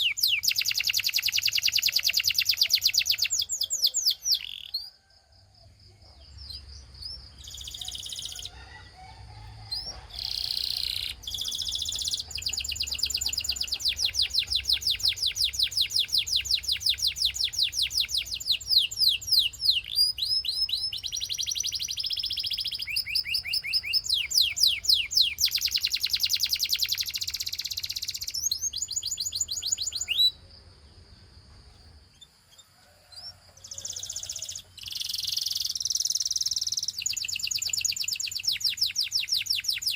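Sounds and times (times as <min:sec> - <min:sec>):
canary singing trills: 0:00.0 - 0:05.1, 0:05.9 - 0:30.5, 0:31.8 - 0:39.9.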